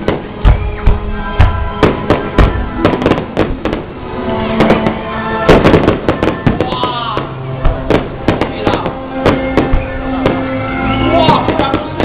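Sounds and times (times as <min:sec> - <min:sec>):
fireworks banging and cracking: 0:00.0 - 0:10.6, 0:11.2 - 0:12.0
loud music with sustained notes: 0:00.0 - 0:12.0.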